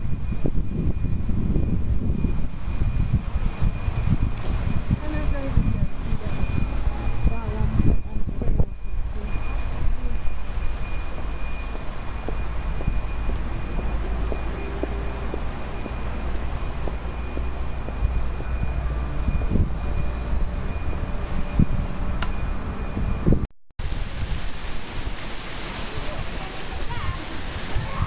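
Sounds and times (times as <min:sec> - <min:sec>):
outdoor square ambience rumble: 0:00.0 - 0:28.0
wind buffeting microphone: 0:00.0 - 0:28.0.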